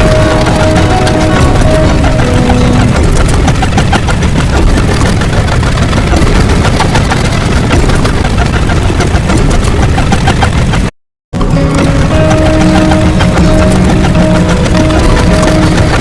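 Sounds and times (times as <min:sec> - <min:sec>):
loud dense rumbling: 0:00.0 - 0:16.0.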